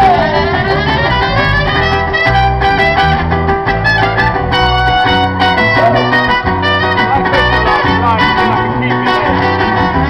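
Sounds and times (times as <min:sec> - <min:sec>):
bass line: 0:00.0 - 0:10.0
gliding lead melody: 0:00.0 - 0:10.0
percussion: 0:00.0 - 0:10.0
strummed guitar: 0:00.0 - 0:10.0.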